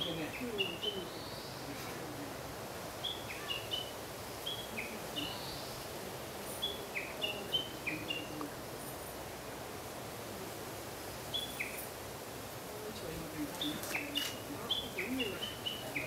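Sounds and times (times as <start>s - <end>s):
small birds chirping: 0.0s - 9.4s, 10.4s - 16.0s
background hiss: 0.0s - 16.0s.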